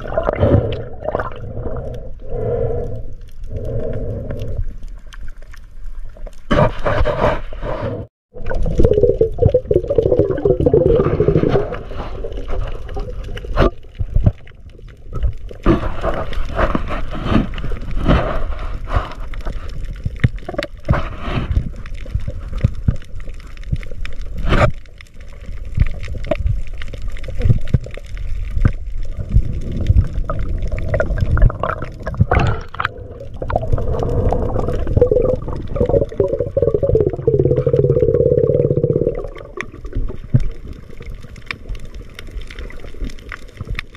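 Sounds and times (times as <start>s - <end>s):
underwater rushing and gurgling: 0.0s - 43.9s.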